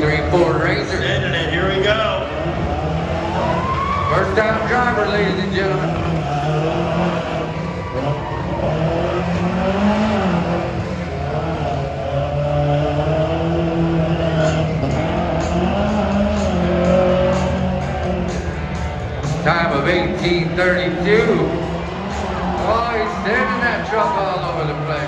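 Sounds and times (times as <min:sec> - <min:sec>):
pickup engine revving hard: 0:00.0 - 0:25.0.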